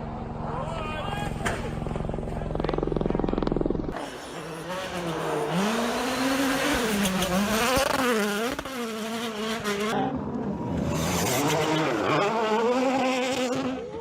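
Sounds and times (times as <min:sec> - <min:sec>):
rally car accelerating: 0:00.4 - 0:14.0
rally car engine revving: 0:01.3 - 0:14.0.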